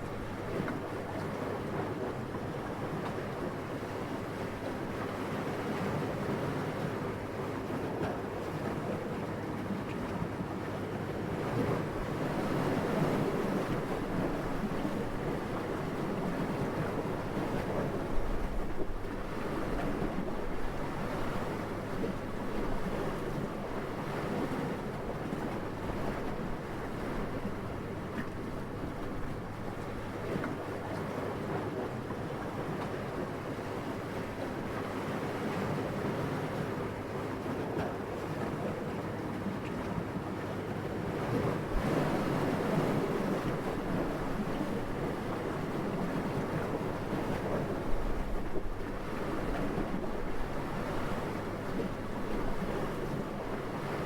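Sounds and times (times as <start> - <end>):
steady wind: 0.0 - 54.0.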